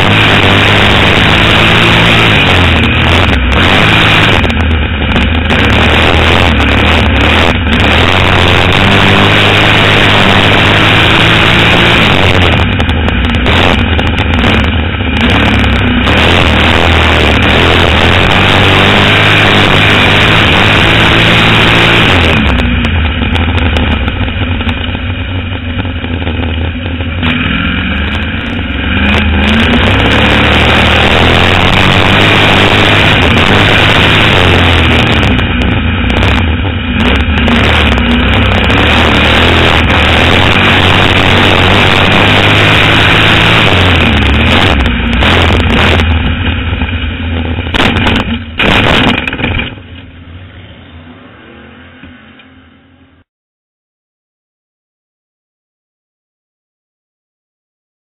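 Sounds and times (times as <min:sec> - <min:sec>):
race car engine at speed: 0:00.0 - 0:53.3.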